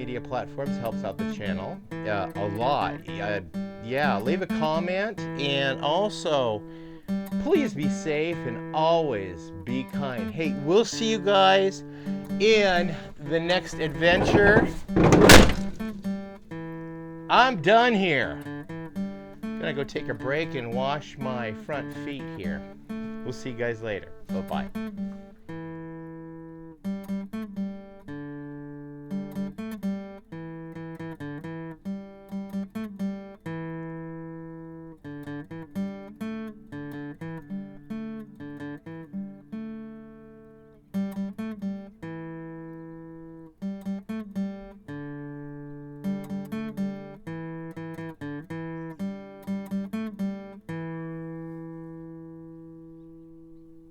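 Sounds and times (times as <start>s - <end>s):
acoustic guitar picking: 0.0s - 53.9s.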